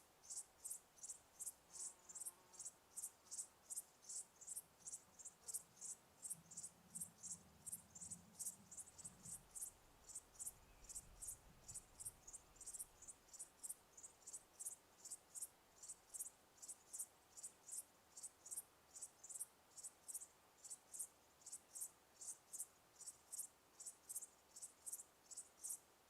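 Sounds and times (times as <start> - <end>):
crickets chirping: 0.2 - 25.8.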